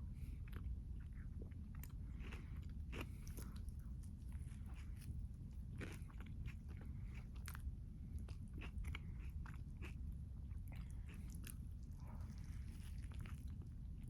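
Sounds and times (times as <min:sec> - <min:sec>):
low steady hum: 0:00.0 - 0:14.0
person chewing and biting food: 0:01.4 - 0:13.8.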